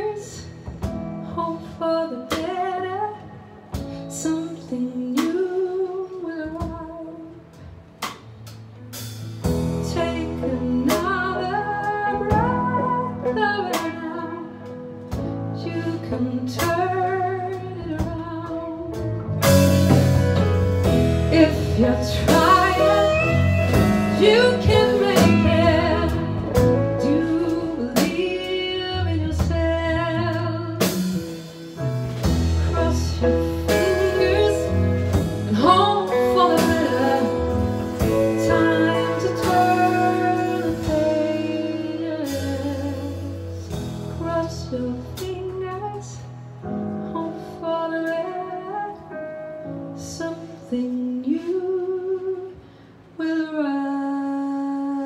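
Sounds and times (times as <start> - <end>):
woman singing: 0.0 - 7.5, 9.7 - 19.2, 21.2 - 31.3, 32.3 - 46.4, 47.0 - 49.4, 50.0 - 52.6, 53.2 - 55.0
live band playing a waltz: 0.0 - 51.6.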